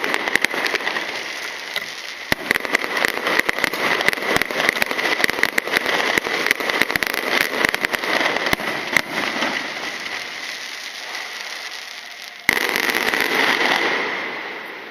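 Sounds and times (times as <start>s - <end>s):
fireworks cracking and popping: 0.0s - 14.9s.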